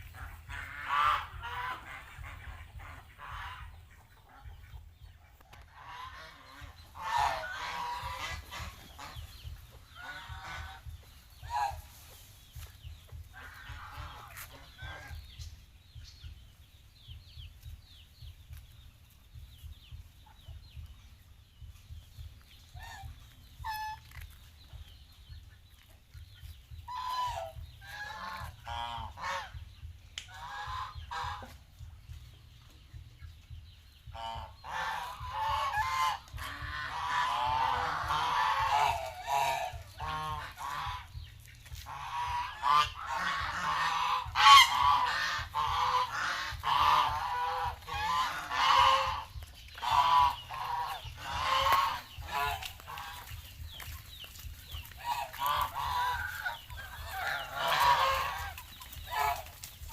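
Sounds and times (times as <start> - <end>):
geese honking: 0.0 - 15.5, 22.7 - 24.4, 26.8 - 32.5, 34.0 - 59.9
low steady rumble: 0.0 - 59.9.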